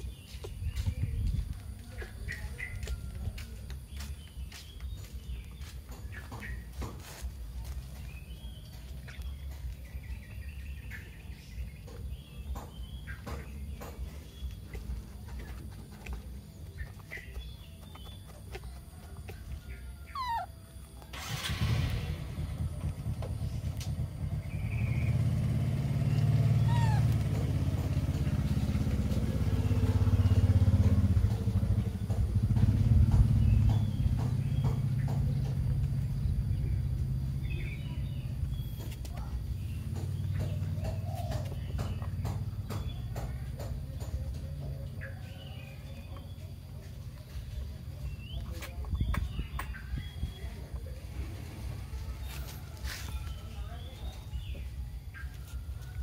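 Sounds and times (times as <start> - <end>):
high chirps and peeps: 0.0 - 21.2, 22.8 - 56.0
small engine droning: 0.0 - 56.0
steady low rumble: 0.0 - 56.0.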